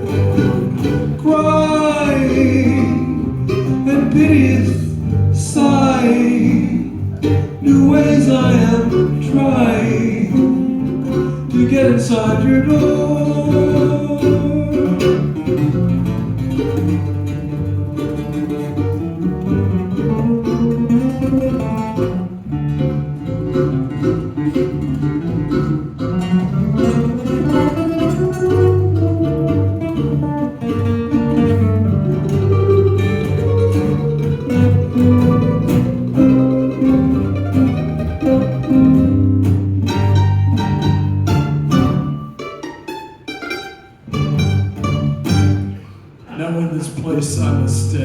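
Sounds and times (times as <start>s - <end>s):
bass line: 0.0s - 42.4s
acoustic string band tango: 0.0s - 48.0s
guitar: 0.0s - 48.0s.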